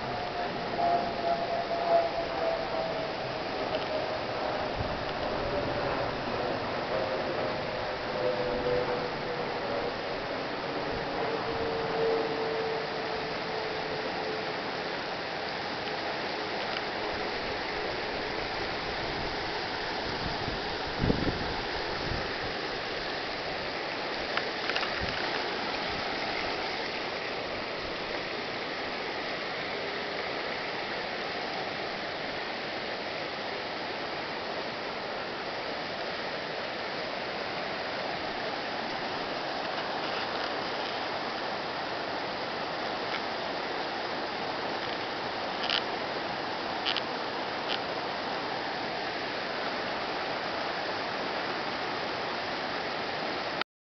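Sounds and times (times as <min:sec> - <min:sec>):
river rapids rushing over rocks: 0:00.0 - 0:53.6.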